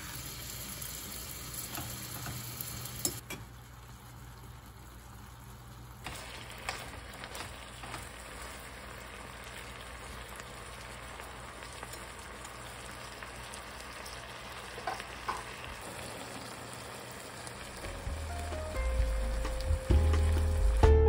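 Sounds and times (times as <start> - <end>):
sauce bubbling and sizzling in pan: 0.0 - 20.9.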